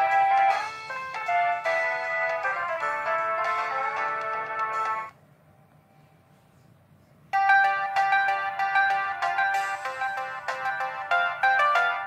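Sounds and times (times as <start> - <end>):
phone ringtone melody: 0.0 - 5.2, 7.4 - 12.0.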